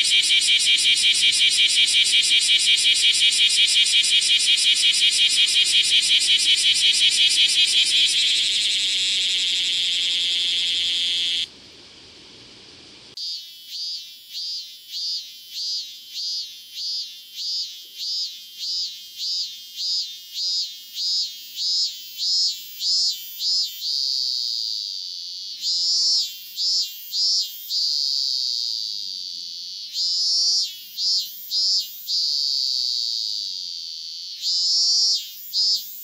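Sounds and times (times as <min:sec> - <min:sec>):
cicada buzzing: 0:00.0 - 0:36.0
cicada singing repeated notes: 0:00.0 - 0:36.0.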